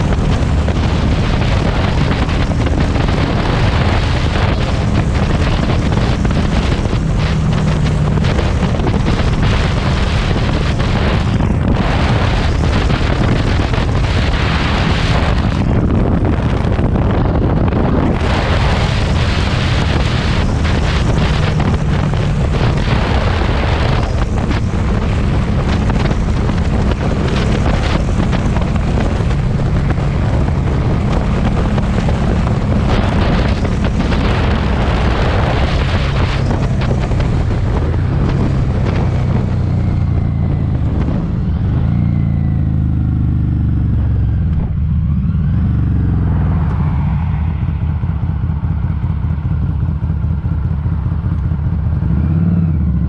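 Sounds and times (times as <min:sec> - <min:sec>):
motorcycle engine running: 0:00.0 - 0:53.0
wind noise on microphone: 0:00.0 - 0:53.0.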